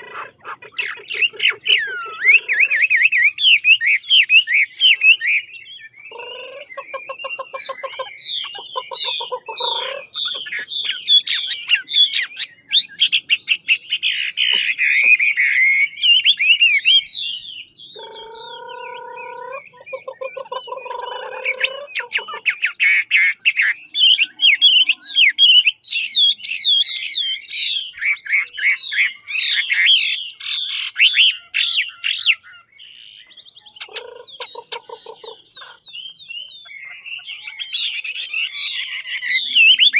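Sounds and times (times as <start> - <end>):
low rapidly repeated bird notes: 0.0 - 39.9
bird singing whistled phrases: 0.8 - 39.9.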